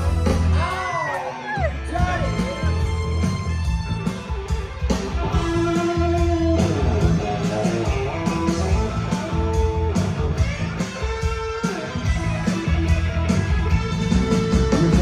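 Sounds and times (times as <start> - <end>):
bass guitar: 0.0 - 15.0
electric guitar lead: 0.0 - 15.0
drum beat: 1.8 - 15.0.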